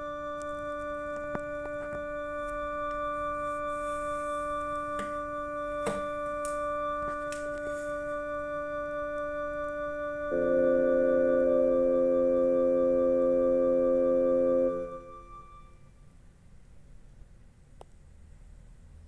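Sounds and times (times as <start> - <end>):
keyboard holding a chord: 0.0 - 15.8.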